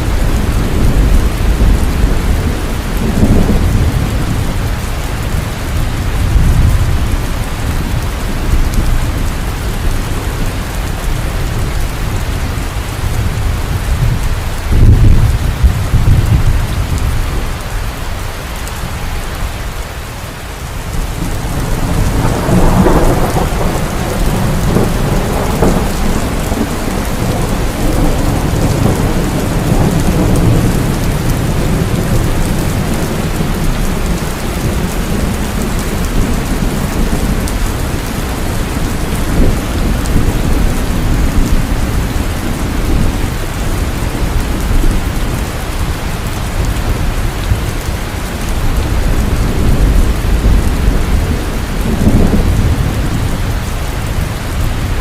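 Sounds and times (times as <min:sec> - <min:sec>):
low rolling thunder: 0:00.0 - 0:19.8, 0:20.8 - 0:55.0
heavy rain falling: 0:00.0 - 0:55.0.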